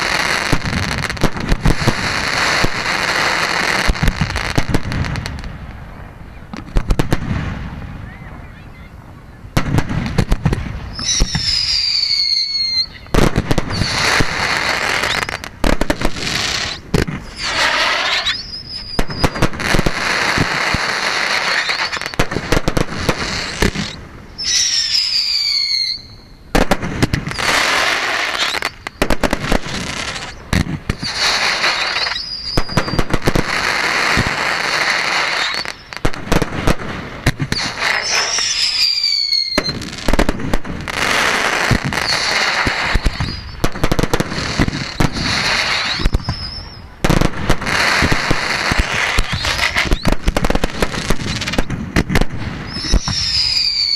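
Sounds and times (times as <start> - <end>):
fireworks whistles: 0.0 - 5.5, 6.3 - 53.9
fireworks bangs and crackling: 0.0 - 53.9.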